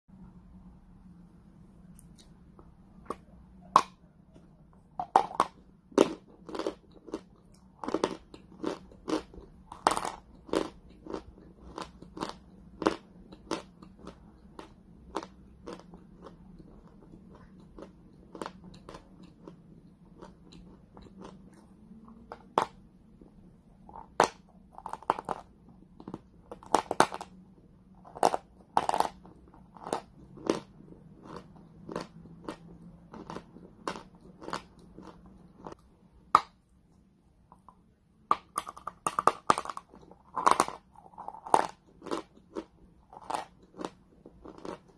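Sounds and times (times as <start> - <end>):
chewing chalk crunches: 3.8 - 22.8, 23.9 - 27.4, 28.0 - 36.5, 38.3 - 44.9.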